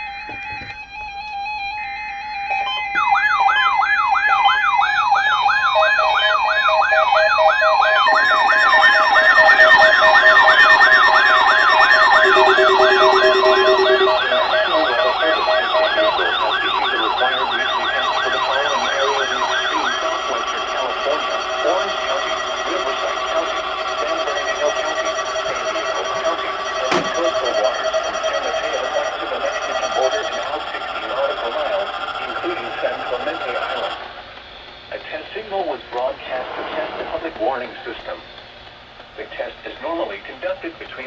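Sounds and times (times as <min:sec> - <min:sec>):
weather radio alarm sweeping tone: 0:00.0 - 0:34.1
steady and pulsing beeps: 0:00.0 - 0:34.2.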